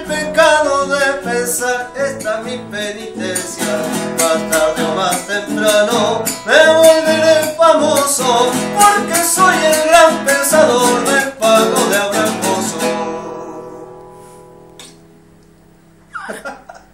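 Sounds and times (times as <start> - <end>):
man singing: 0.0 - 13.8
classical guitar strumming: 0.0 - 15.3.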